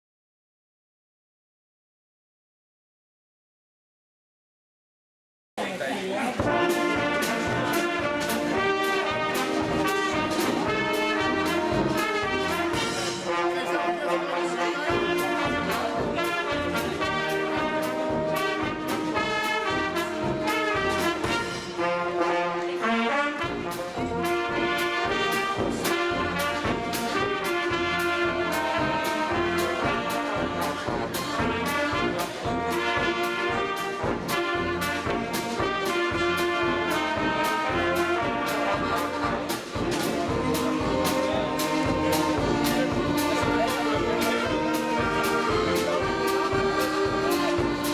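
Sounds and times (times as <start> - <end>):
brass music with steady beat: 6.2 - 47.9.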